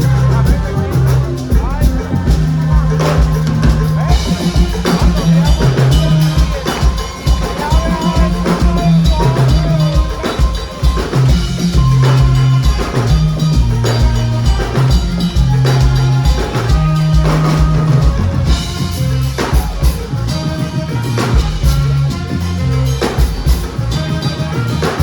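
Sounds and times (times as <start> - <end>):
band playing live: 0.0 - 25.0
bass line: 0.0 - 25.0
drum kit beat: 0.0 - 25.0.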